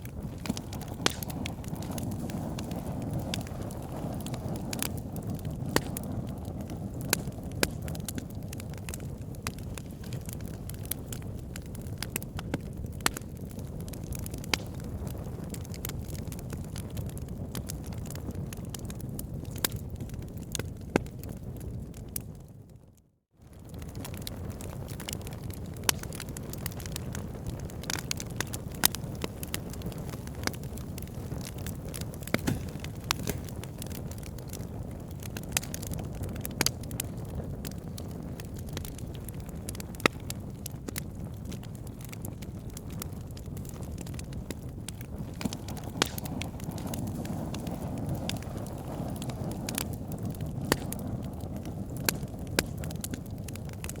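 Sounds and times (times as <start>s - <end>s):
low rush of flames: 0.0s - 22.4s, 23.4s - 54.0s
wood fire crackling: 0.0s - 22.4s, 23.4s - 54.0s.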